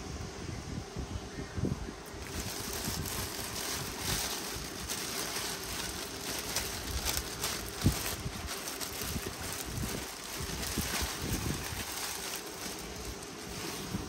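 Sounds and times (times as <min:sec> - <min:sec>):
plastic bag crinkling: 0:02.2 - 0:14.0.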